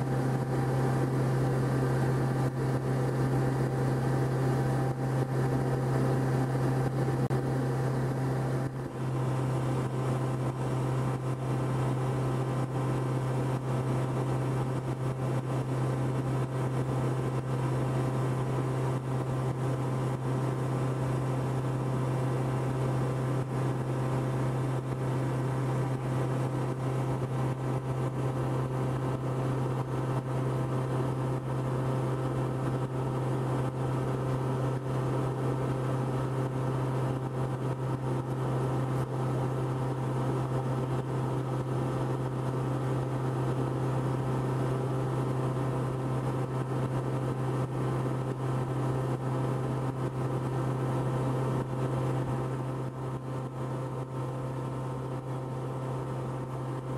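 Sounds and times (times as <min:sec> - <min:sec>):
propeller plane engine drone: 0:00.0 - 0:56.9.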